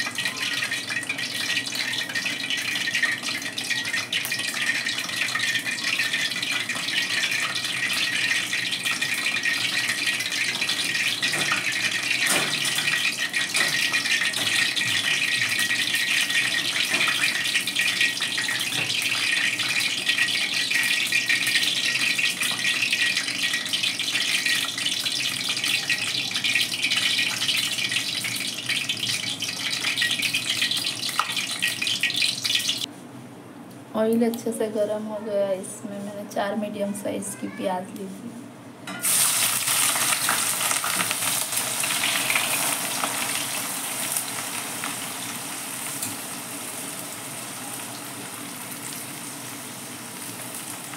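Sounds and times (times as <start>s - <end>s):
hot oil hissing and crackling: 0.0s - 32.9s, 38.9s - 50.9s.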